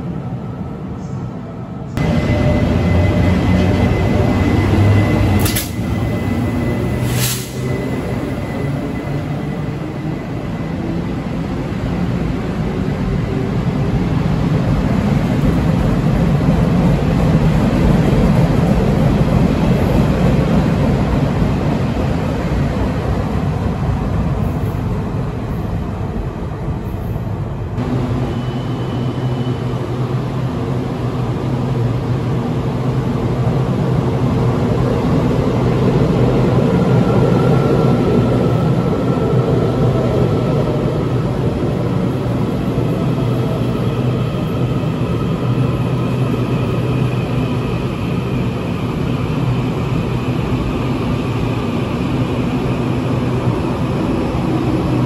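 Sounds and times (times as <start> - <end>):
train rolling in: 0.0 - 55.0
train rumbling on rails: 0.0 - 55.0.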